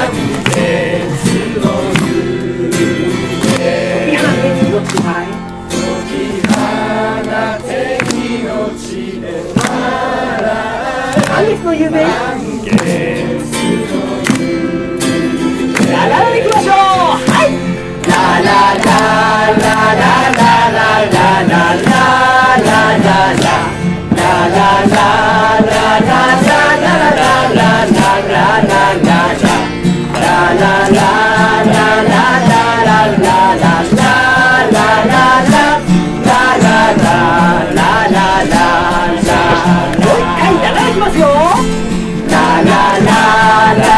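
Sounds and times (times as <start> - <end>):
group of voices singing: 0.0 - 43.9
strummed acoustic guitar: 0.0 - 43.9.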